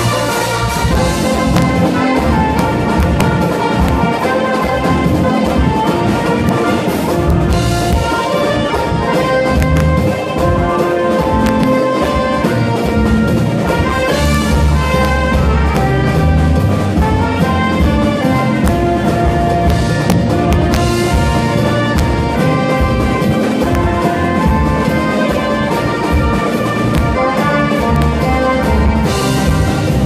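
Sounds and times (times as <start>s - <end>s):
horn band playing: 0.0s - 30.0s
surdo drums: 0.0s - 30.0s.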